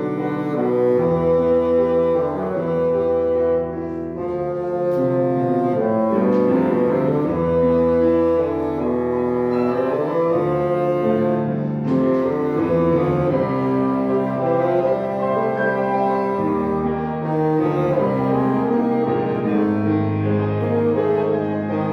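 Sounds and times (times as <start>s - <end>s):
bassoon melody: 0.0s - 21.9s
piano accompaniment: 0.0s - 21.9s.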